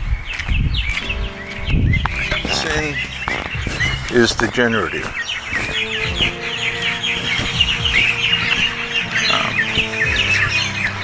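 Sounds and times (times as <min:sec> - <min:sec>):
kookaburras chattering: 0:00.5 - 0:11.0
soft background music: 0:00.6 - 0:11.0.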